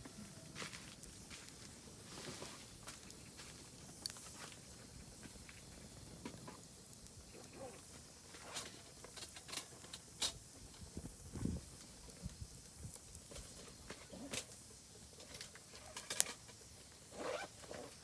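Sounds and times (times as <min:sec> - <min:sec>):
campfire crackling and popping: 0:00.4 - 0:18.0.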